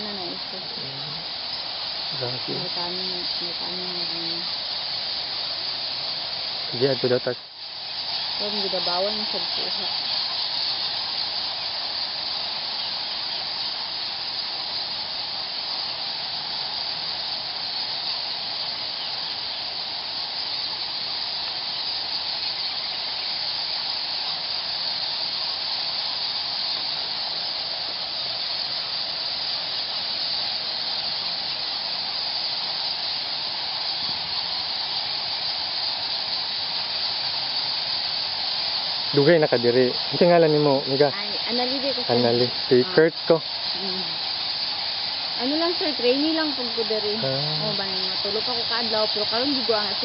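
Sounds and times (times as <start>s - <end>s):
bat colony calling: 0.0s - 28.6s, 30.2s - 50.0s.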